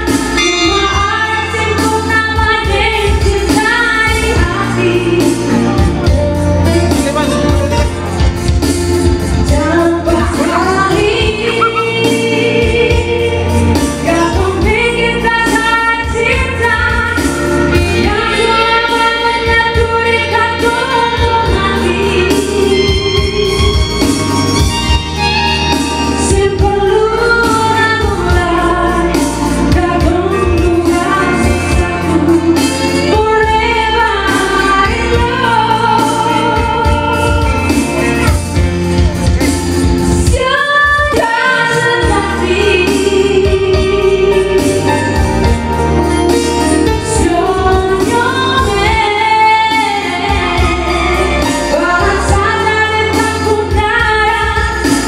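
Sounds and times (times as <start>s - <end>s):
woman singing into a microphone: 0.0s - 7.0s, 7.8s - 55.0s
live band playing: 0.0s - 55.0s.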